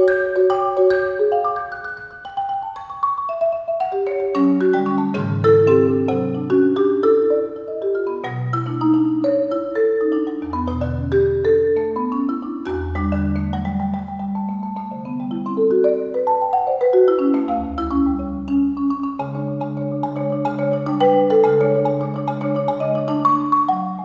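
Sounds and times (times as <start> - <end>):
marimba played with mallets: 0.0 - 24.0.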